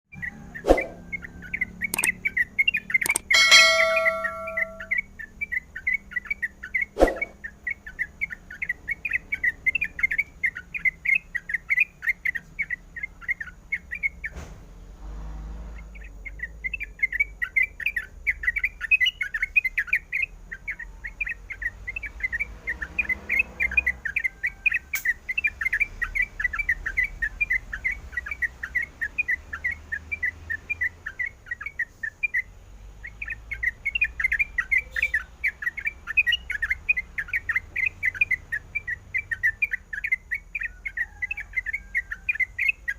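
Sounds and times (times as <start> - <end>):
bird chattering chirps: 0.1 - 14.3, 16.0 - 42.9.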